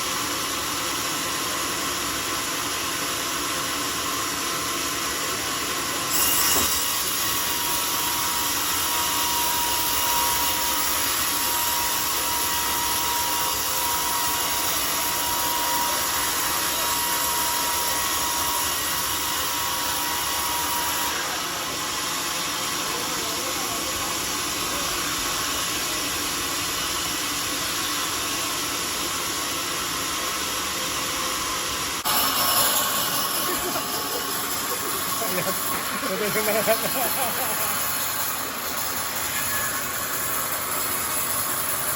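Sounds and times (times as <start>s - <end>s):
saw cutting through log: 0.0s - 41.9s
thin saw whine: 0.0s - 41.9s.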